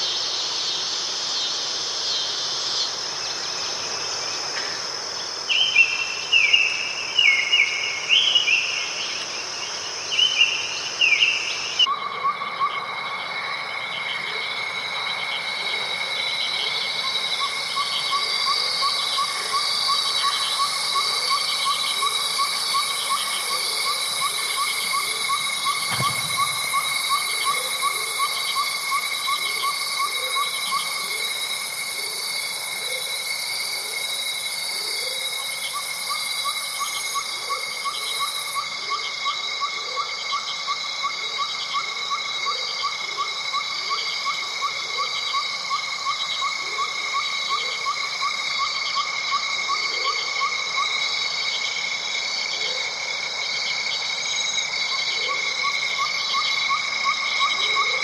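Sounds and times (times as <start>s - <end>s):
high insect trills: 0.0s - 58.0s.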